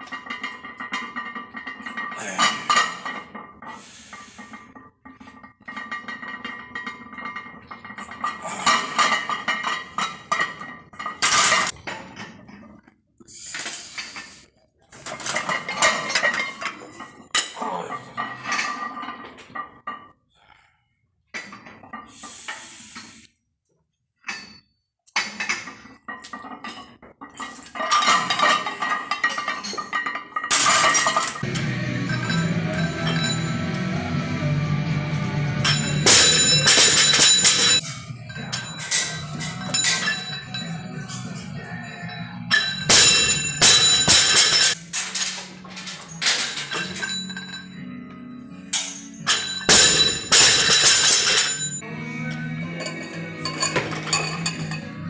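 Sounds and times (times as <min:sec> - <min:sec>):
barbell plates clinking: 0:00.0 - 0:12.9, 0:15.0 - 0:20.2, 0:24.2 - 0:34.2, 0:35.1 - 0:47.9, 0:48.6 - 0:51.8, 0:52.8 - 0:55.0.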